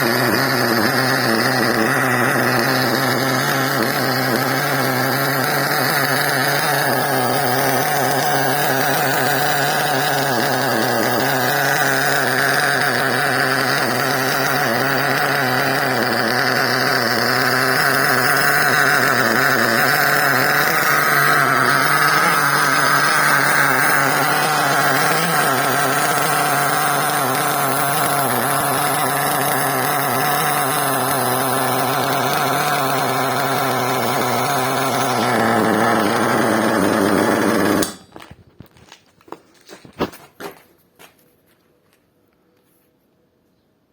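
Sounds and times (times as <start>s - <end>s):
two-stroke nitro engine running: 0.0s - 38.2s.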